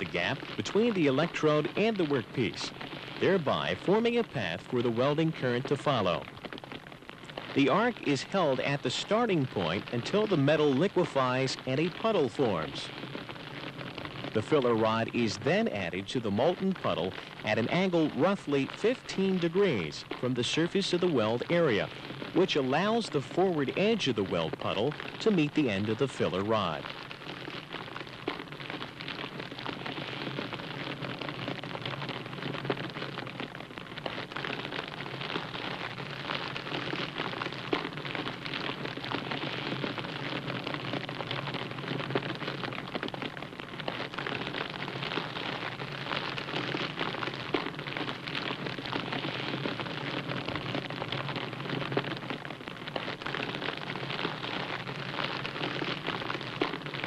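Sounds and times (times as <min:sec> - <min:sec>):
welding arc crackling hiss: 0:00.0 - 0:57.0.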